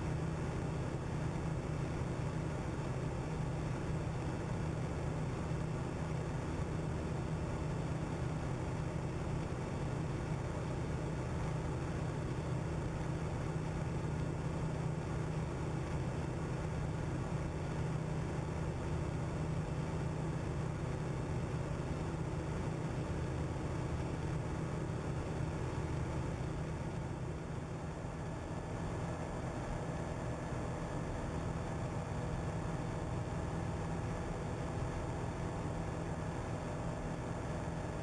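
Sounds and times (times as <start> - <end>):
low engine drone: 0.0 - 38.0.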